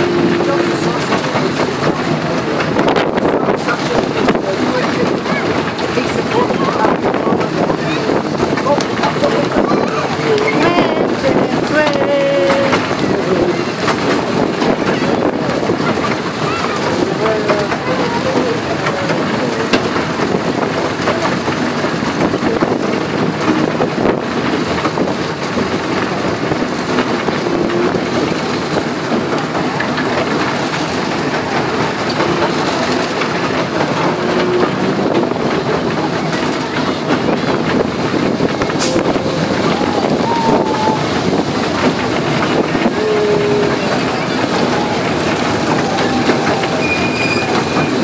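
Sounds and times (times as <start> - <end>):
miniature train rumbling: 0.0 - 48.0
wheels clicking on rails: 0.0 - 48.0.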